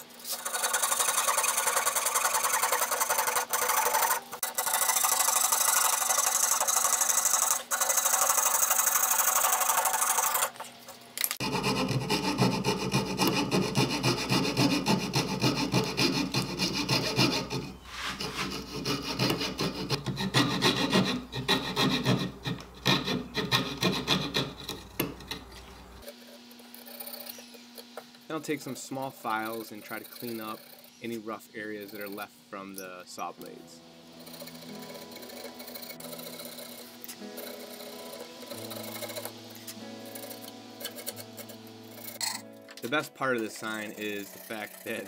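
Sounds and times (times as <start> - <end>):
fret saw cutting plywood: 0.0 - 10.6, 11.4 - 27.6, 28.4 - 32.2, 33.4 - 42.3, 43.4 - 45.0.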